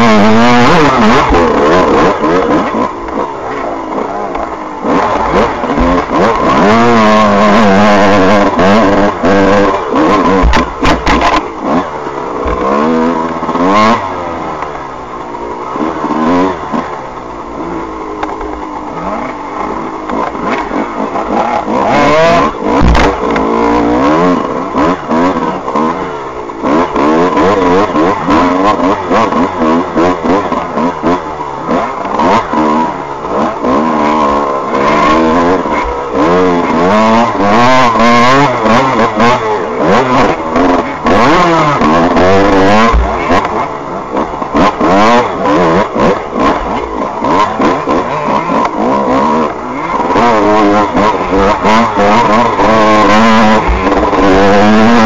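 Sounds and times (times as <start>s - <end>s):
knocks and rattles from bike: 0.0s - 55.0s
motorcycle engine revving: 0.0s - 55.0s.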